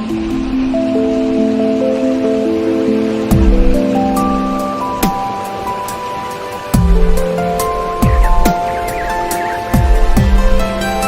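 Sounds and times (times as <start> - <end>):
music of held notes: 0.0 - 11.0.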